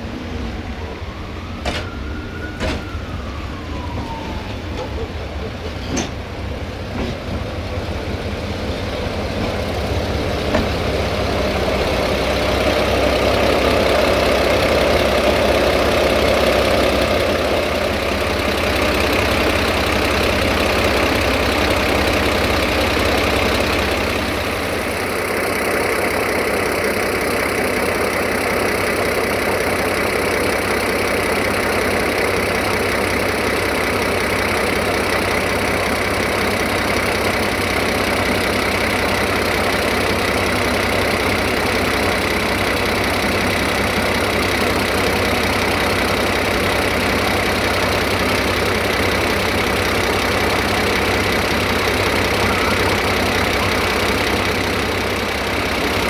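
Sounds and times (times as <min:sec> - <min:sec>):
diesel engine idling: 0:03.0 - 0:56.0.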